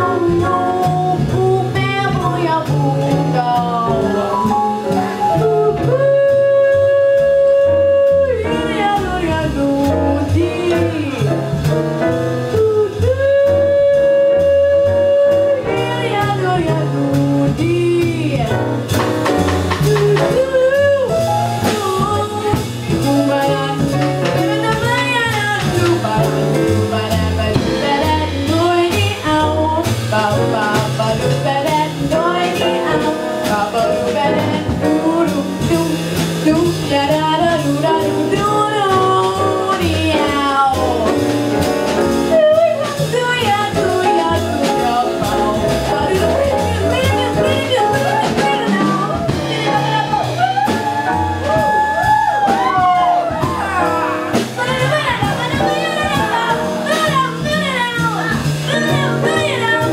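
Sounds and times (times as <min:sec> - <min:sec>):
plucked double bass: 0:00.0 - 0:59.9
woman singing jazz: 0:00.0 - 0:59.9.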